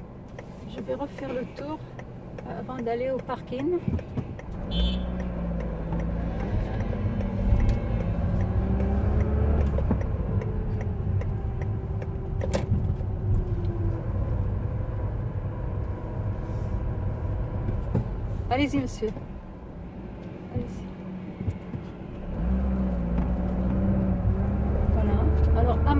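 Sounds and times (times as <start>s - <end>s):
car engine and road noise: 0.0s - 25.9s.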